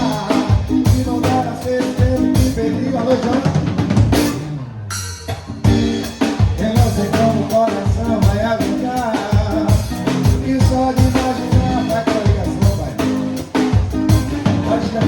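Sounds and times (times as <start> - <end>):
person singing: 0.0 - 3.7, 5.7 - 15.0
drum kit beat: 0.0 - 15.0
live band playing: 0.0 - 15.0.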